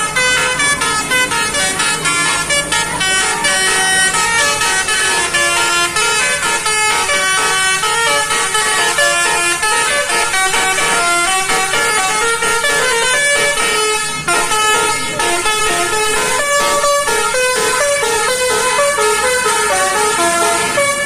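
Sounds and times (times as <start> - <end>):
bus horn playing fast melody: 0.0 - 21.0.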